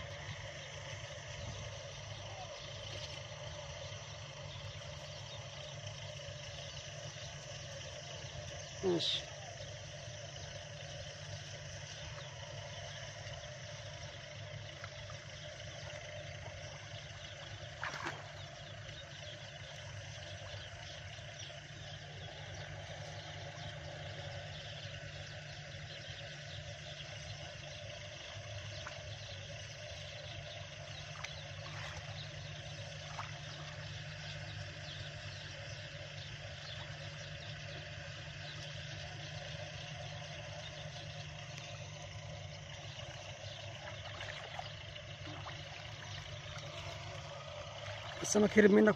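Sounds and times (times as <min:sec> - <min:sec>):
birds: 0:00.0 - 0:48.9
insects: 0:00.0 - 0:48.9
low even hum: 0:00.0 - 0:48.9.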